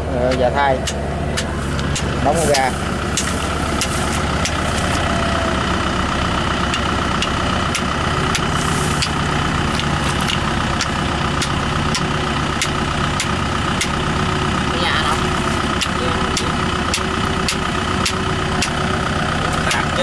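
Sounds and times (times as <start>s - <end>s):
tractor diesel engine idling: 0.0s - 20.0s.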